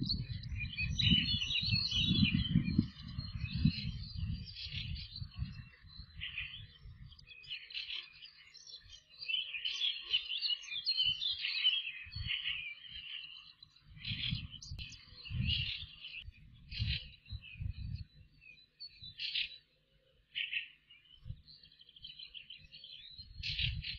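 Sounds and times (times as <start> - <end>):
birds chirping and twittering: 0.0 - 23.9.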